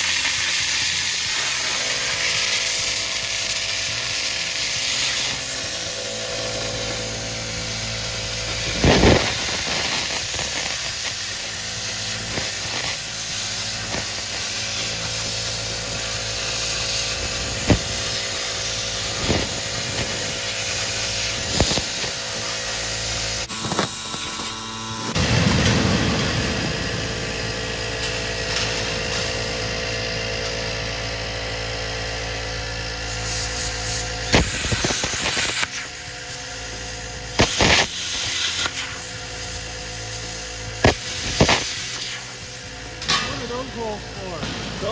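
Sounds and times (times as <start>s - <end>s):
plasma cutter hissing: 0.0s - 44.9s.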